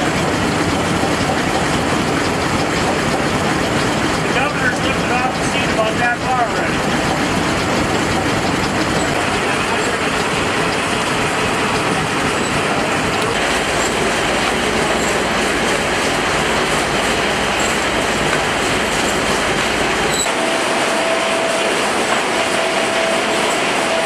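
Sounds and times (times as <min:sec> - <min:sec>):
sawmill machinery running: 0:00.0 - 0:24.0
steam traction engine working: 0:00.0 - 0:24.0.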